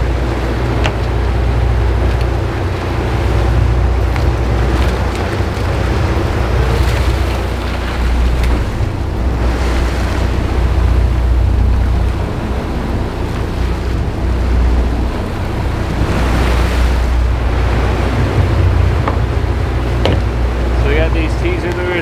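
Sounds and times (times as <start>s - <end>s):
boat engines running: 0.0s - 22.0s
water rushing in wake: 0.0s - 22.0s
wind buffeting microphone: 0.0s - 22.0s.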